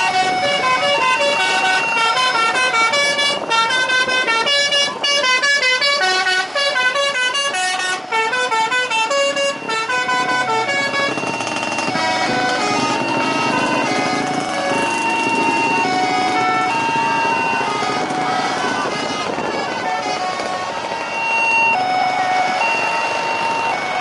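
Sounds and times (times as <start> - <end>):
musical bus horn playing: 0.0 - 24.0.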